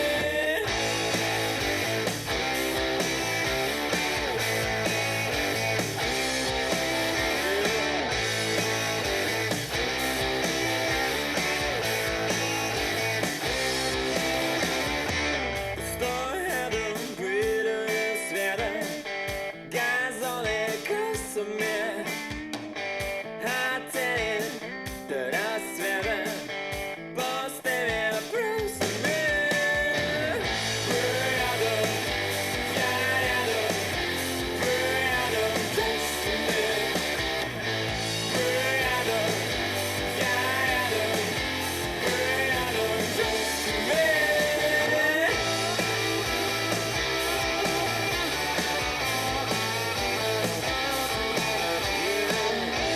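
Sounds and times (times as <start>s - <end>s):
song with guitar and beat: 0.0s - 52.9s.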